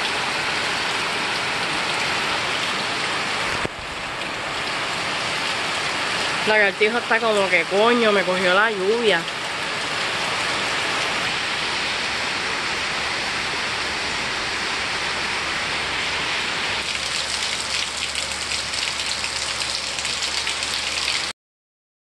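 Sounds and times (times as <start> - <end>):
steady rain falling: 0.0 - 21.3.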